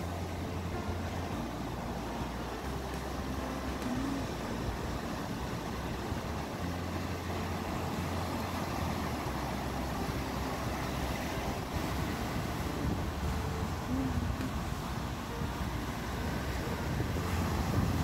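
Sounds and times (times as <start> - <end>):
ocean surf washing: 0.0 - 18.0
wind rumbling on microphone: 0.0 - 18.0.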